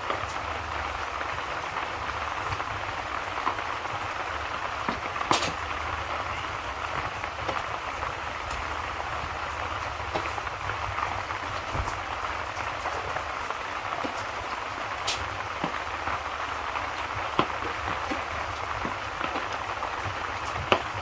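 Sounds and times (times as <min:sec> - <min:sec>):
sharp crackling pops: 0:00.0 - 0:21.0
steady rain: 0:00.0 - 0:21.0.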